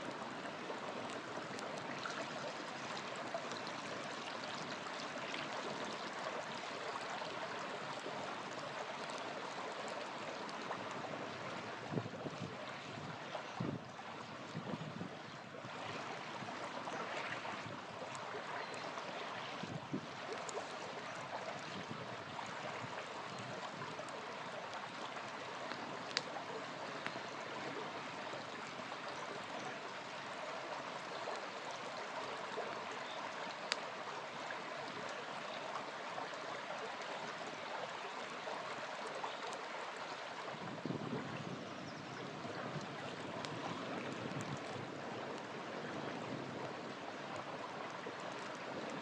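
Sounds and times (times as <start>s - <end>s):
small river flowing: 0.0s - 49.0s.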